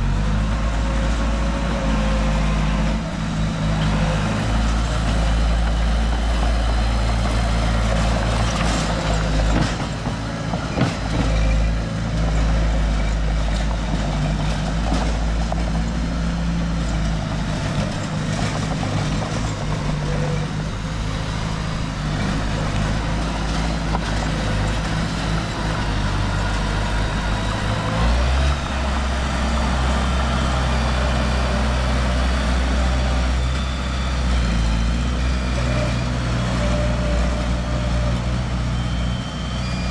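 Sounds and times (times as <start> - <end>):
diesel machine engine running: 0.0 - 39.9.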